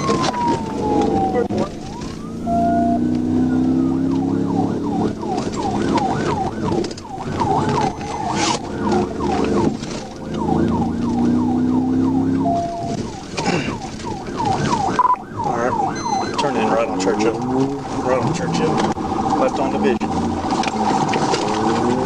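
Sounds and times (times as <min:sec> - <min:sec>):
car engine running hard: 0:00.0 - 0:22.0
police siren yelping: 0:00.0 - 0:22.0.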